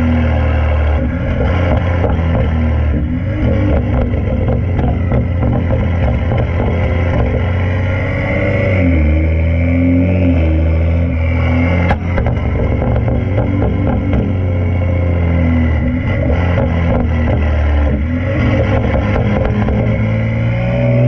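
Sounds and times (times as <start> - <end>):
sharp exhaust crack: 0.0 - 20.3
loud car engine exhaust: 0.0 - 21.0.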